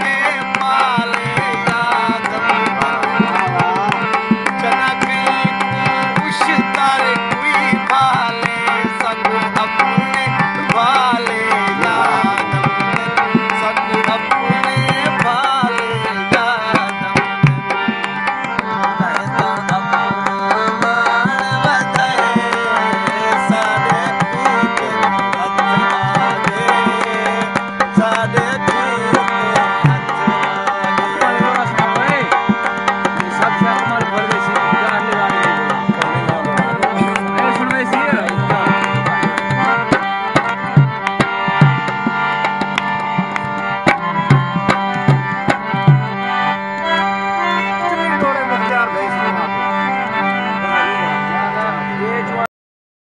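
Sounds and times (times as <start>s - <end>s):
harmonium playing chords: 0.0s - 52.5s
hand drum beating: 0.5s - 46.2s.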